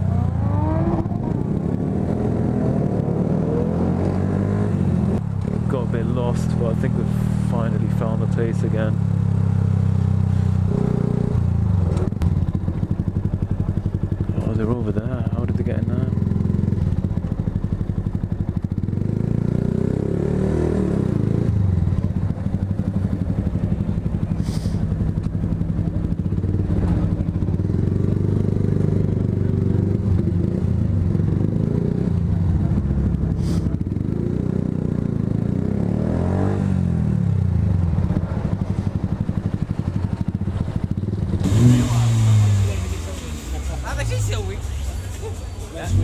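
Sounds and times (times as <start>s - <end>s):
motorcycle engine running: 0.0s - 20.3s, 21.1s - 36.0s, 36.8s - 46.0s.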